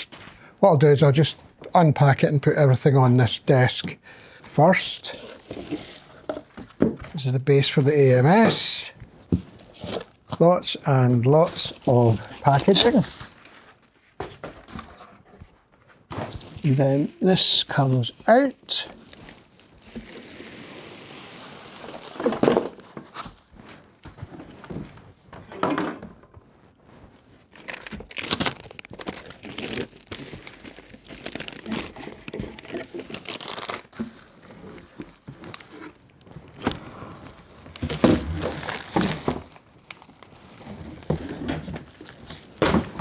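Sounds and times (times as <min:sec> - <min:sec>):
packaging crinkling and rustling: 0:04.7 - 0:25.3, 0:26.6 - 0:43.0.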